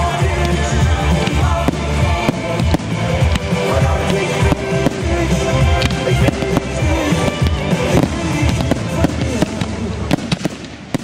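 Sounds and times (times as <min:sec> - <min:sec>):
loud music with heavy bass: 0:00.0 - 0:10.2
fireworks bursting and crackling: 0:00.0 - 0:11.0.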